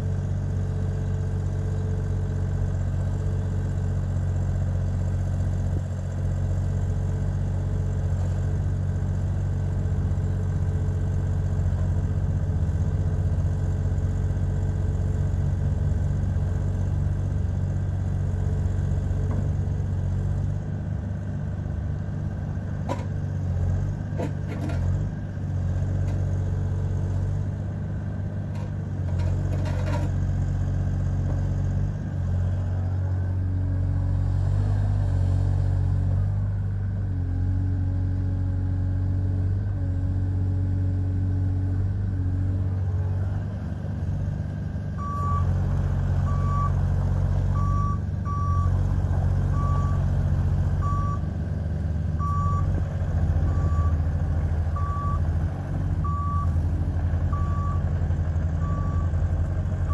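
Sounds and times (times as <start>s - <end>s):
diesel excavator engine under load: 0.0s - 59.9s.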